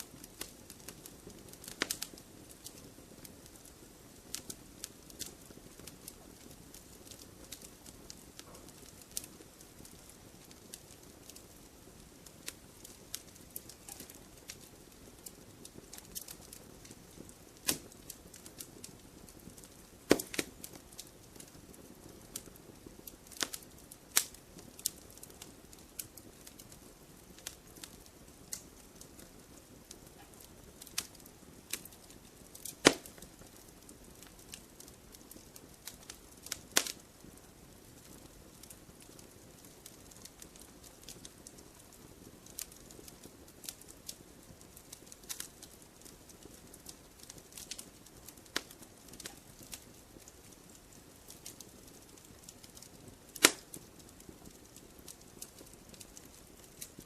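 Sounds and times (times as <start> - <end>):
campfire crackling and popping: 0.0 - 57.0
soft steady hiss of fire: 0.0 - 57.0.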